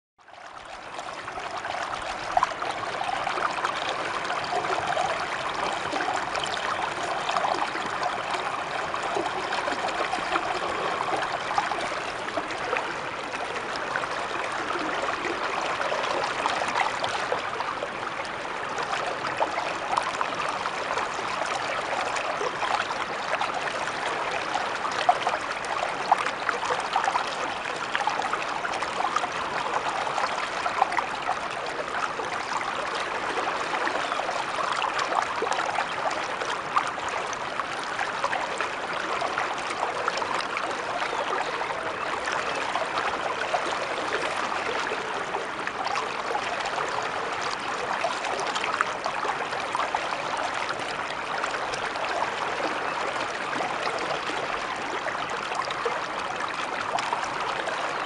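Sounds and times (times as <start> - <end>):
small water splashes: 0.7 - 58.0.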